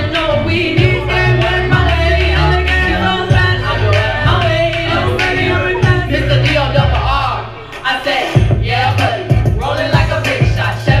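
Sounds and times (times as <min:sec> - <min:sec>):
music with singing and heavy bass: 0:00.0 - 0:11.0.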